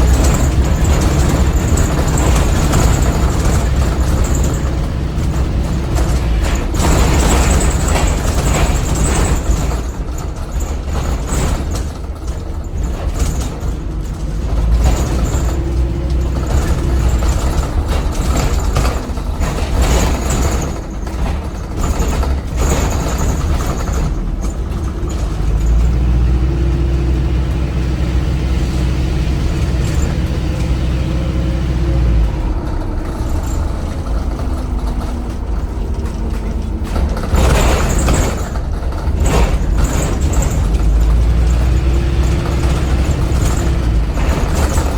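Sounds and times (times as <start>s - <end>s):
rattles: 0.0s - 28.1s, 29.3s - 44.9s
bus diesel engine droning: 0.0s - 44.9s.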